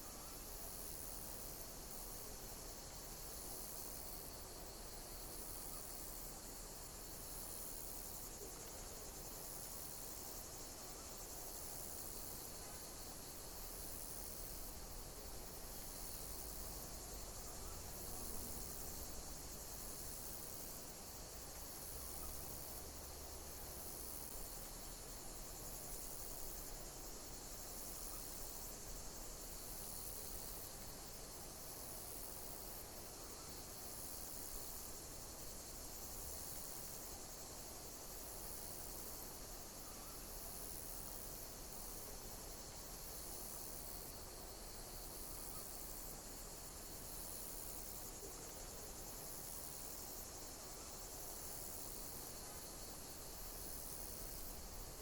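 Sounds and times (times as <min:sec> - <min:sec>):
insects chirping: 0:00.0 - 0:55.0
low hiss: 0:00.0 - 0:55.0.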